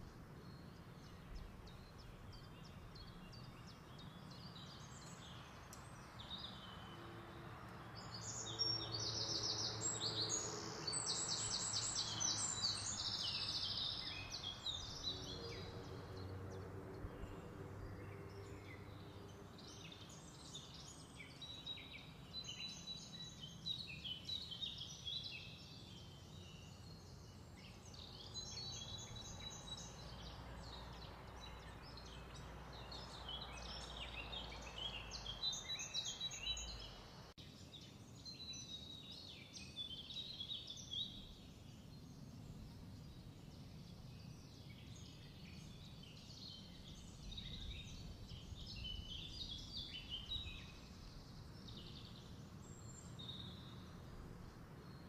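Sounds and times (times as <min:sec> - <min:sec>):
songbird chirping and singing: 0:00.0 - 0:55.0.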